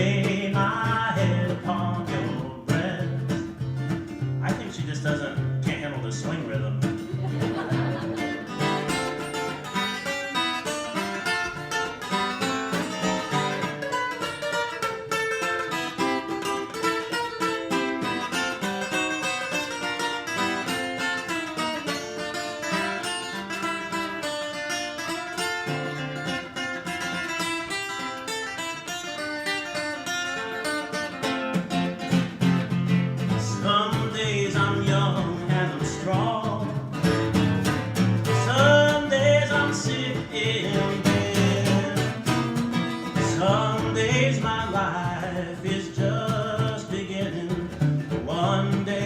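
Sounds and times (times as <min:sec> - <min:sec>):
country music instrumental: 0:00.0 - 0:49.0
plucked guitar run: 0:00.0 - 0:49.0.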